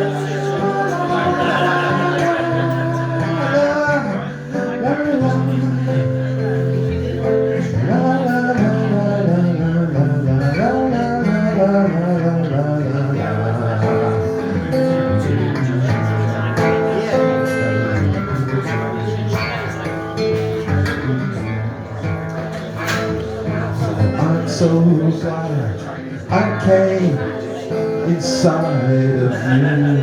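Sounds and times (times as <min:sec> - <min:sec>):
live guitar playing: 0:00.0 - 0:30.0.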